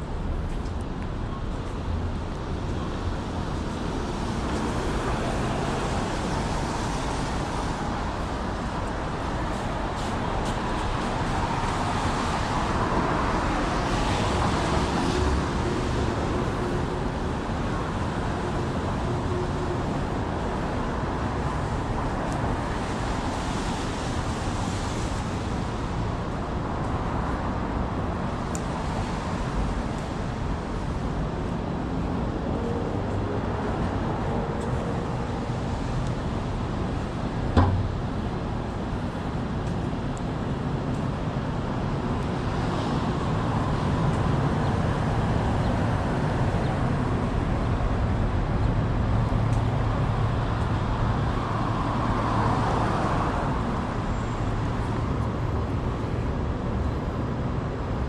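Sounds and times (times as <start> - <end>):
city street traffic: 0.0 - 58.0
vehicles passing by: 0.0 - 58.0.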